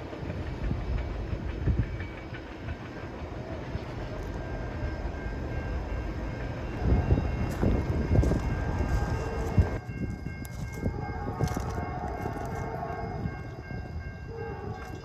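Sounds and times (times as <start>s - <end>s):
train clacks and knocks: 0.0s - 15.0s
train wheels rumbling on rail: 0.0s - 15.0s.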